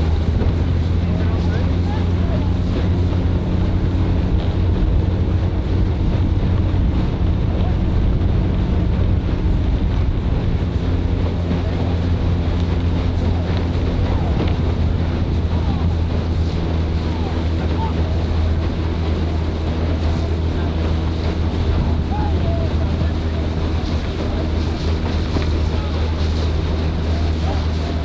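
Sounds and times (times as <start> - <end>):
boat motor humming: 0.0 - 28.0
wind buffeting microphone: 0.0 - 28.0.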